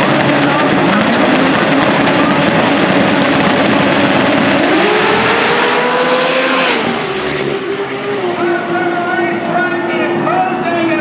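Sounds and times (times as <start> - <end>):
drag race engines accelerating: 0.0 - 11.0.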